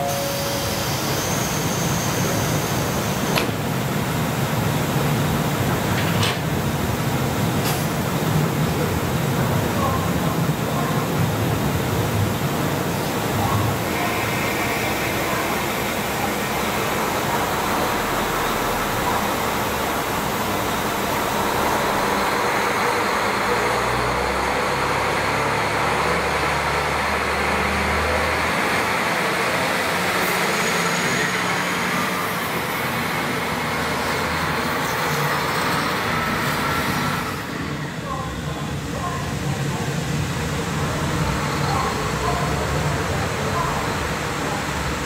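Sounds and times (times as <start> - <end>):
diesel railcar engine pulling away: 0.0 - 45.0.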